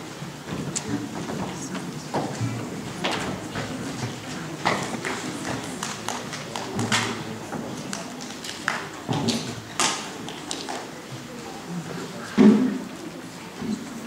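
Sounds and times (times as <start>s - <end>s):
faint murmuring voices: 0.0s - 14.0s.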